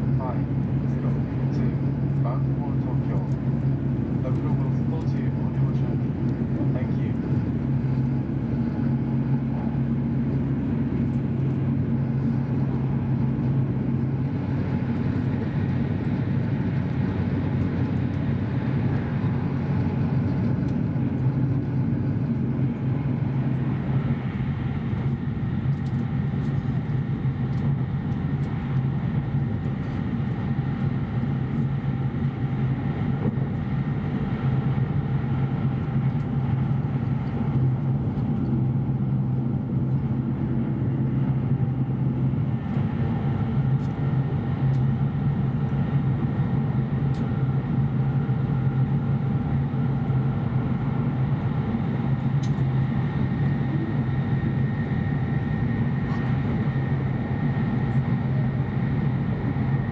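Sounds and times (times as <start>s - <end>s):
train cabin hum: 0.0s - 59.9s.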